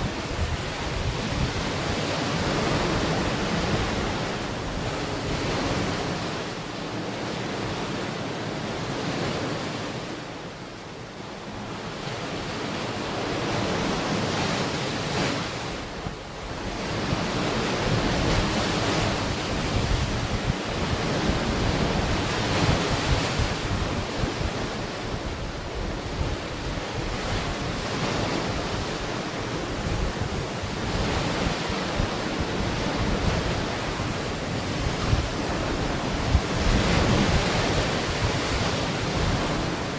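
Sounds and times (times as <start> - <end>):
wind gusting on microphone: 0.0 - 6.6, 12.7 - 39.9
ocean waves on a beach: 0.0 - 39.9.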